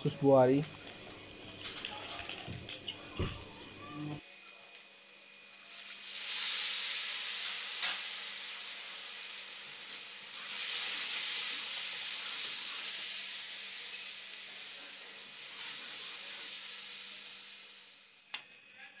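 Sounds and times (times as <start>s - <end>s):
spices sizzling in hot oil: 0.4s - 3.2s, 4.2s - 18.3s.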